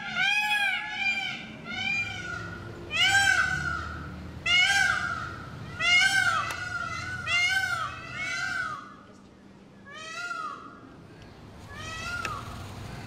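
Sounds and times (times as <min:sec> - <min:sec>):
peacock calling loudly: 0:00.0 - 0:09.0, 0:09.8 - 0:11.0, 0:11.6 - 0:13.0.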